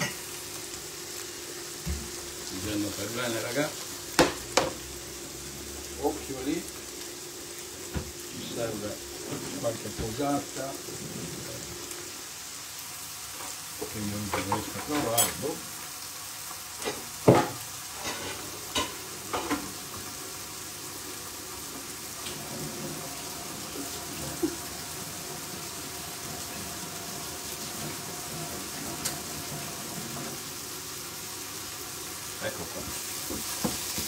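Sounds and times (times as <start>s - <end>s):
vegetables sizzling in a frying pan: 0.0s - 34.0s.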